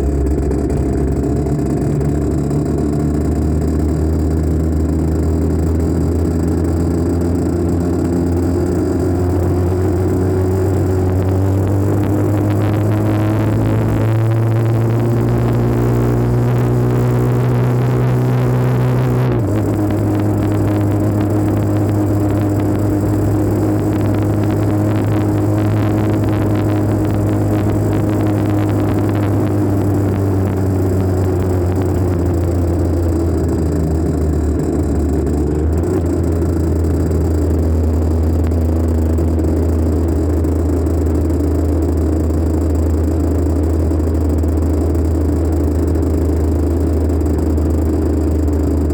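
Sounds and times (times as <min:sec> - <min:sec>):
dirt bike engine running: 0:00.0 - 0:48.9.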